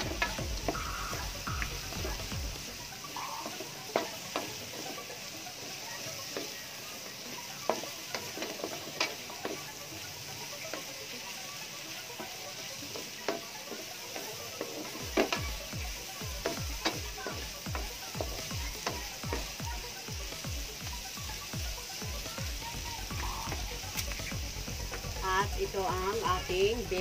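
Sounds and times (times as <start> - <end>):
vegetables sizzling in oil: 0.0 - 27.0
wooden spatula scraping wok: 0.0 - 27.0.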